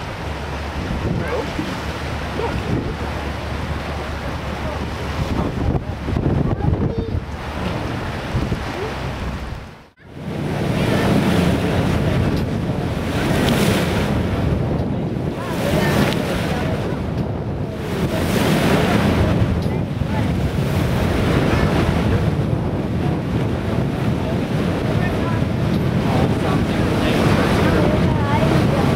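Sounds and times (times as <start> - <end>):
water rushing: 0.0 - 28.9
wind buffeting microphone: 0.0 - 28.9.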